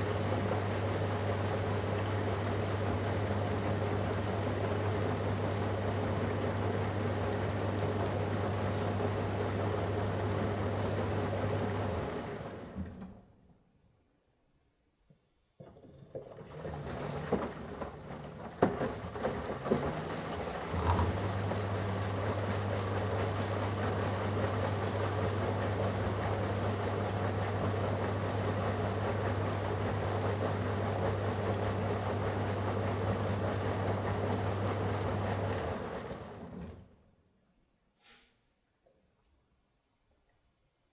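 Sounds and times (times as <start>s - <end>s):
water sloshing in washing machine: 0.0s - 13.2s, 15.5s - 37.0s
washing machine motor hum: 0.0s - 13.5s, 15.0s - 37.2s.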